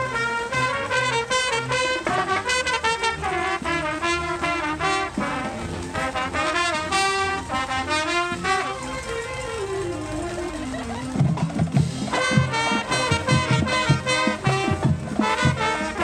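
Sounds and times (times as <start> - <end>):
brass instruments playing melody: 0.0 - 16.0.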